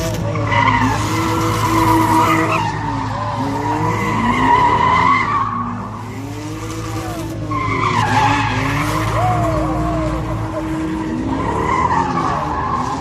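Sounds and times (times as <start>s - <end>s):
car engine revving: 0.0s - 13.0s
tyres screeching: 0.0s - 13.0s.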